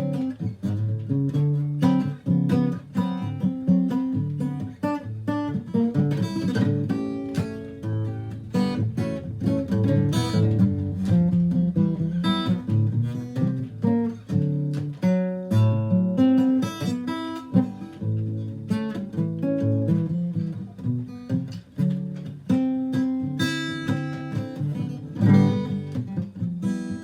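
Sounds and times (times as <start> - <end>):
acoustic guitar picking and strumming: 0.0 - 27.0.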